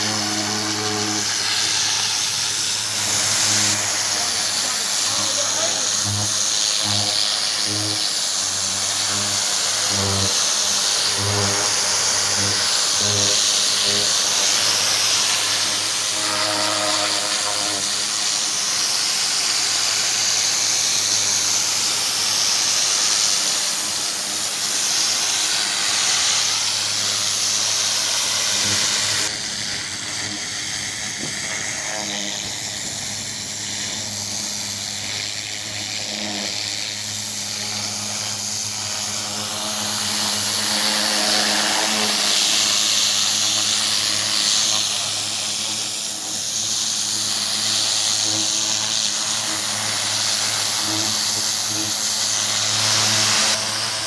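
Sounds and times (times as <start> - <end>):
high-pressure water hissing: 0.0 - 54.0.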